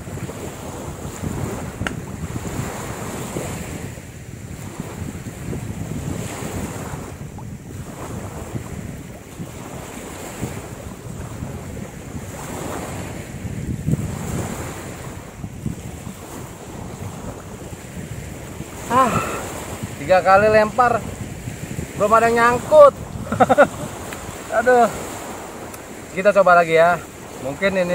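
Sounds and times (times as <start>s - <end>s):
waves on shore: 0.0s - 27.9s
wind buffeting microphone: 0.0s - 27.9s.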